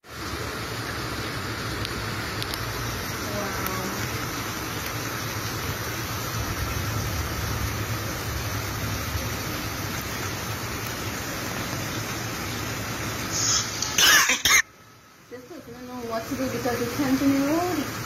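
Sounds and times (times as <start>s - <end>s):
rain and tyre spray hiss: 0.0s - 18.0s.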